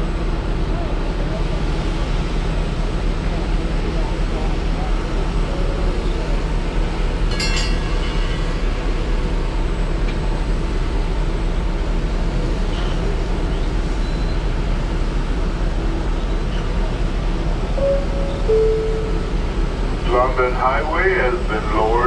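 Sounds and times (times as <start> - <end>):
rail vehicle rumbling and rattling: 0.0 - 22.0.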